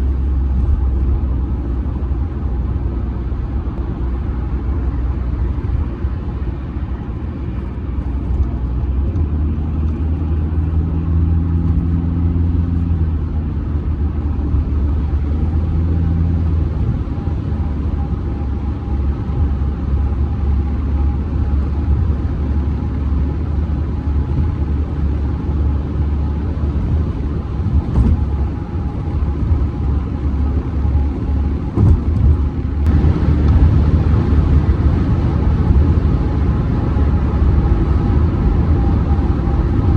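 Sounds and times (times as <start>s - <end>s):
diesel engine hum: 0.0s - 39.9s
road and tyre rumble: 0.0s - 39.9s.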